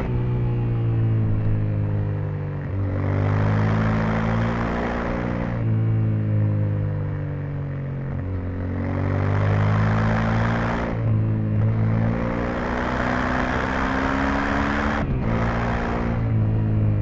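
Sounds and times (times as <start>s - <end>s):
motorcycle engine: 0.0s - 17.0s.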